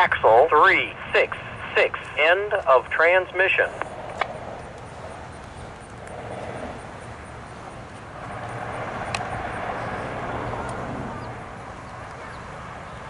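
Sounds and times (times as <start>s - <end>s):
train wheels rolling on rails: 1.9s - 13.0s.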